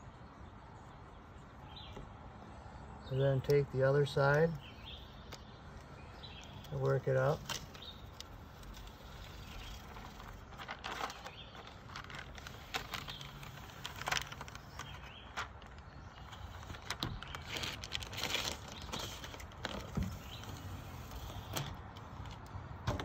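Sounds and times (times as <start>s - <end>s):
paper backing crackling and rustling: 4.0s - 22.8s.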